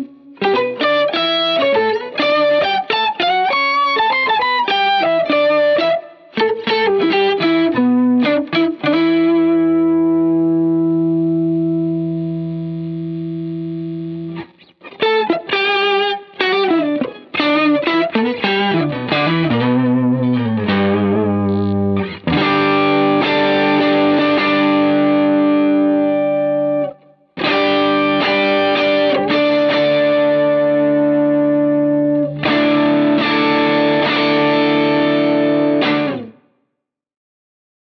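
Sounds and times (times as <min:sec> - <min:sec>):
distorted electric guitar: 0:00.0 - 0:36.4.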